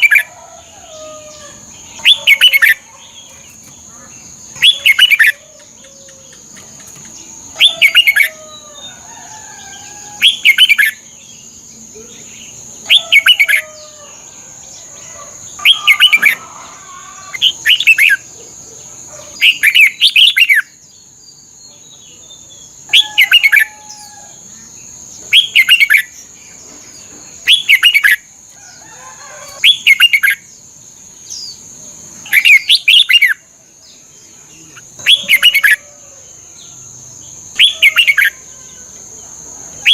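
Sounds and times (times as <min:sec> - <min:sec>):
bird warbling song: 0:00.0 - 0:28.2, 0:29.0 - 0:30.6, 0:31.2 - 0:36.8
soft bird chatter: 0:00.0 - 0:39.9.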